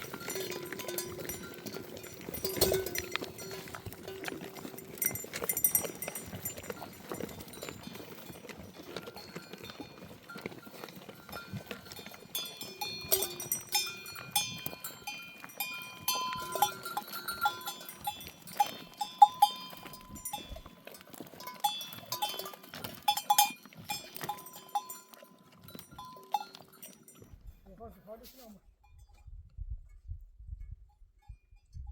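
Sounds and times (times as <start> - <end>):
sheep bells clinking: 0.0 - 27.9, 28.7 - 31.9.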